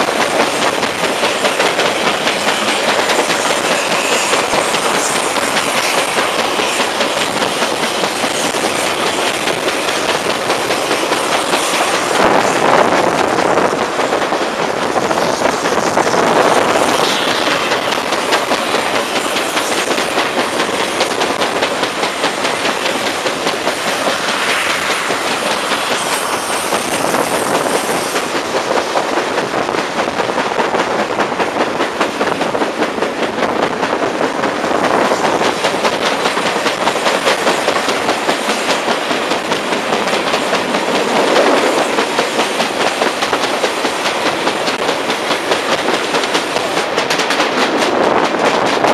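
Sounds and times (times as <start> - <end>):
train running rush: 0.0 - 48.9
train wheels thumping on rails: 0.0 - 48.9.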